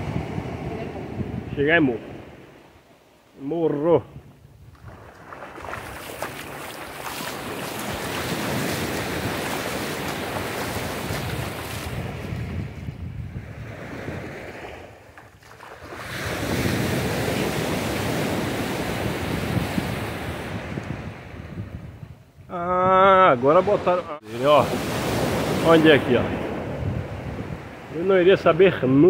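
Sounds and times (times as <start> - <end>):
wind on microphone: 0.0 - 2.5, 4.0 - 23.1, 24.4 - 28.0
sea waves washing in: 0.0 - 3.5, 4.8 - 21.4, 23.7 - 28.5.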